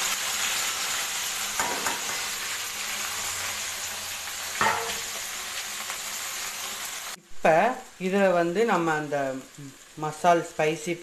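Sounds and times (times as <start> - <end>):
okra sizzling in hot oil: 0.0 - 11.0.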